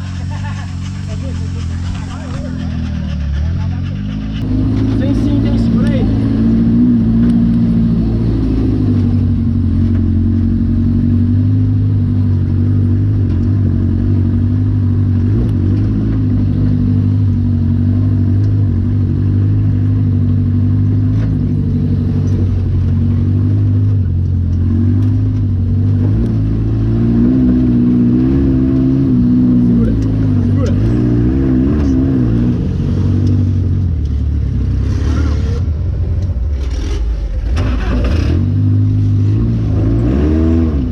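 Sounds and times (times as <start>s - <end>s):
off-road buggy engine running: 0.0s - 40.9s.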